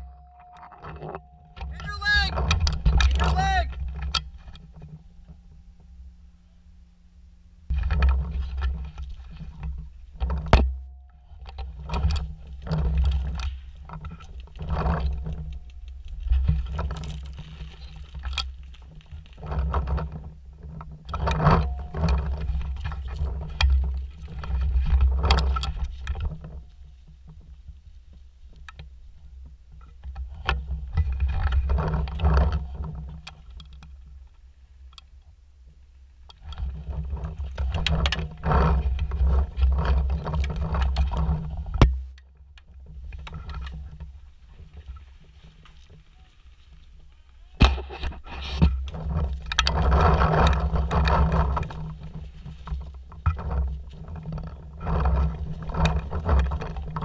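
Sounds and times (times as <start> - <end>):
rustling and scraping: 0.0 - 57.0.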